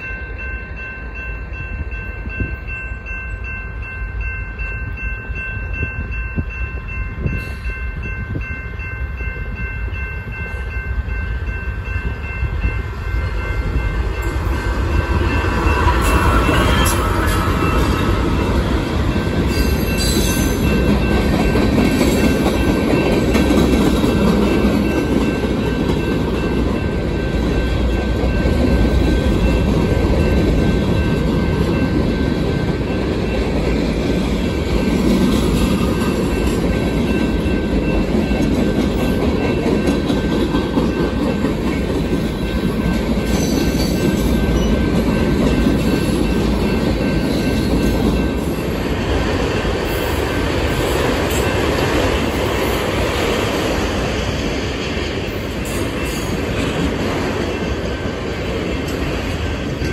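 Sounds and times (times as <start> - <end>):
diesel locomotive passing: 0.0 - 59.9
freight cars rumbling on rails: 9.2 - 59.9.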